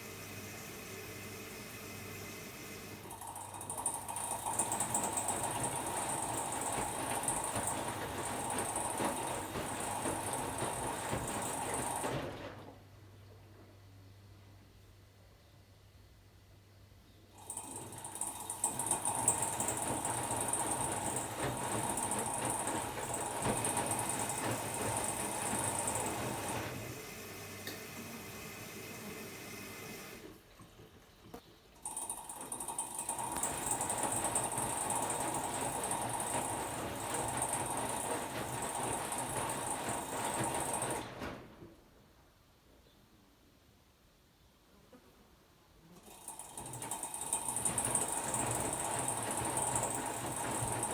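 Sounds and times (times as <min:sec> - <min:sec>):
washing machine water intake hiss: 0:00.0 - 0:12.8, 0:17.3 - 0:31.0, 0:31.8 - 0:41.8, 0:46.0 - 0:50.9
mechanical hum: 0:00.0 - 0:50.9.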